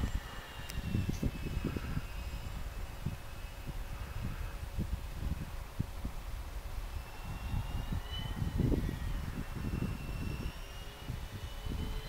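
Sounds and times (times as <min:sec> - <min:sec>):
distant model plane whine: 0:00.0 - 0:12.0
wind buffeting microphone: 0:00.0 - 0:12.0.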